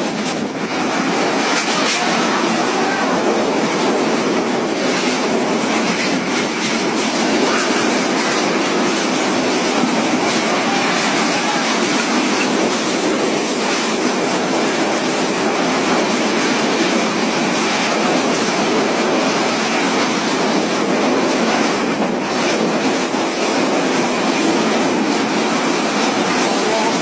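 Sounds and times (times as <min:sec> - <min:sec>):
driving rain: 0:00.0 - 0:27.0
strong wind: 0:00.0 - 0:27.0.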